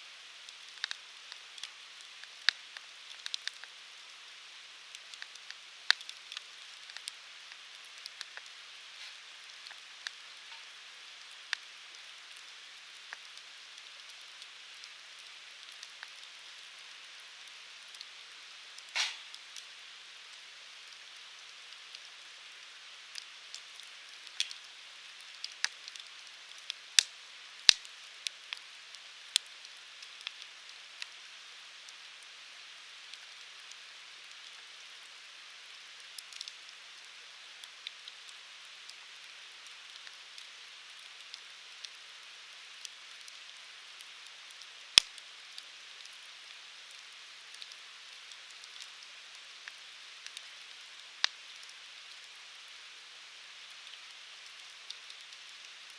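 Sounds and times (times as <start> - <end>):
wood fire crackling and popping: 0.5 - 4.1, 4.7 - 32.3, 33.0 - 55.9.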